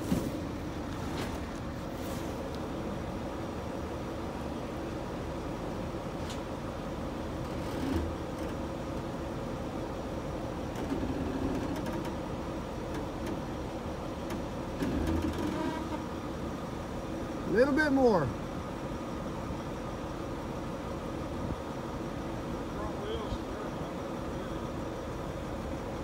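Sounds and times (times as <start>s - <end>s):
truck engines idling: 0.0s - 26.0s.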